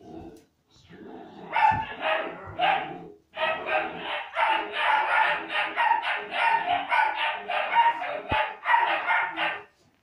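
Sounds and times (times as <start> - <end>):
puppies yapping: 1.5 - 9.7.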